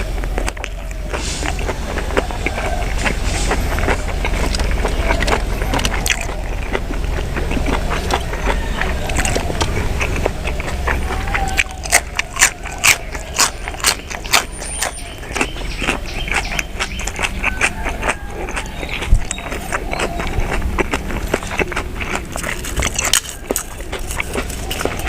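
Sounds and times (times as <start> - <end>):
mouth chewing and lip smacking: 0.0 - 25.0
steady low hum: 0.0 - 25.0.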